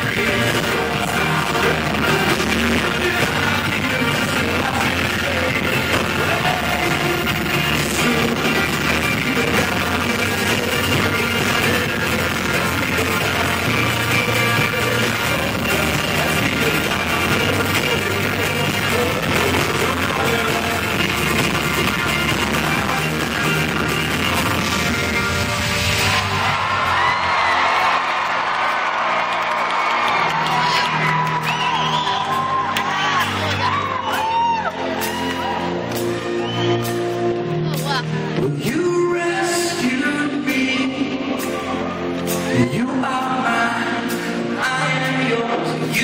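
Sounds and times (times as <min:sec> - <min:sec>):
live rock band with singing: 0:00.0 - 0:25.9, 0:31.4 - 0:46.0.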